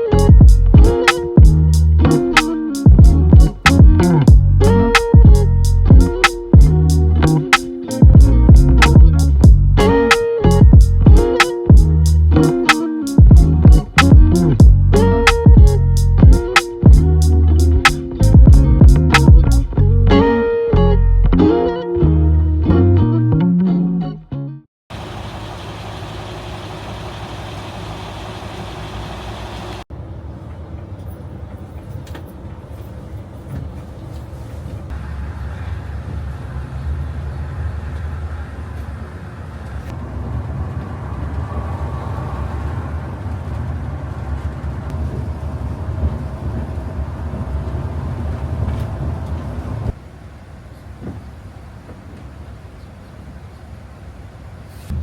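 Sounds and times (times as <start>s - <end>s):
traffic engine rumble: 0.0s - 22.7s, 24.9s - 55.0s.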